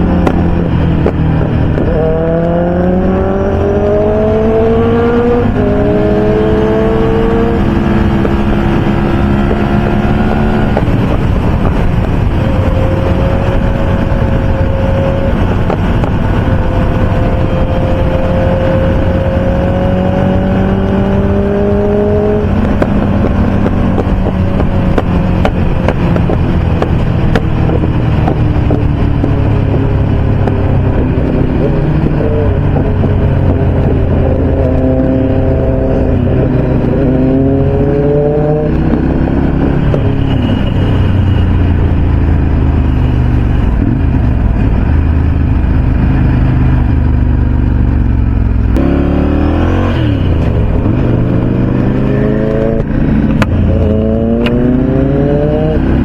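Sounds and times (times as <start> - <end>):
motorcycle engines droning: 0.0 - 56.0.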